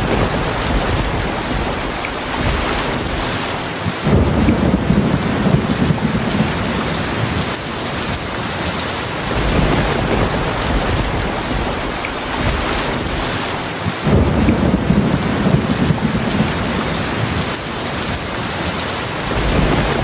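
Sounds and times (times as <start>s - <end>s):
low rolling thunder: 0.0s - 8.6s, 9.2s - 18.6s, 19.2s - 20.0s
heavy rain hissing: 0.0s - 20.0s.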